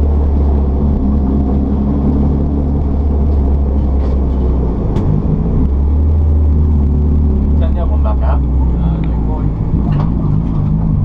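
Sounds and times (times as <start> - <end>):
race car engine droning: 0.0 - 11.0.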